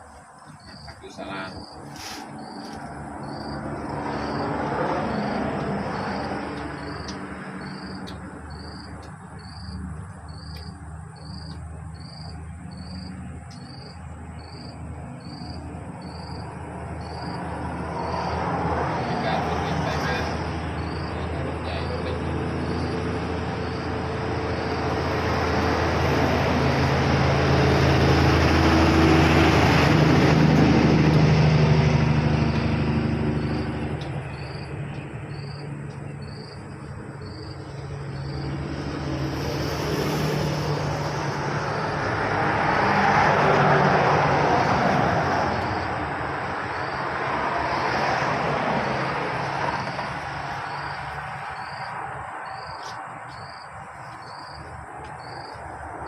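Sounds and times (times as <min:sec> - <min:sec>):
heavy engine hum: 0:00.0 - 0:54.1
vehicles passing by: 0:00.0 - 0:56.0.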